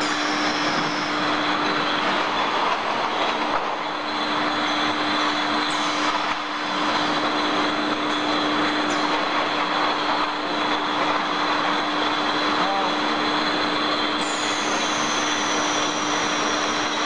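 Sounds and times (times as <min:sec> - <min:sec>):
bottle conveyor line running: 0:00.0 - 0:17.0
constant hum: 0:00.0 - 0:17.0.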